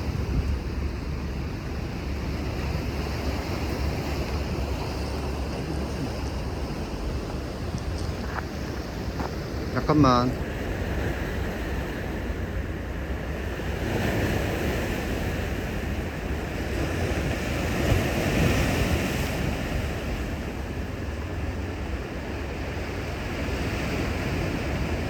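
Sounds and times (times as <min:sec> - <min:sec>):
sea waves washing on shore: 0:00.0 - 0:25.0
wind buffeting microphone: 0:00.0 - 0:25.0.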